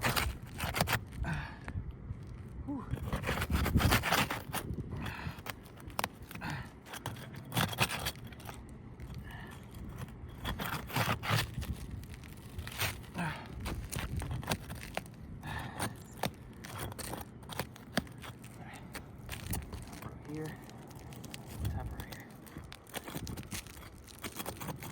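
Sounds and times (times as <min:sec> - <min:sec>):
shingles scraping and cracking: 0:00.0 - 0:24.9.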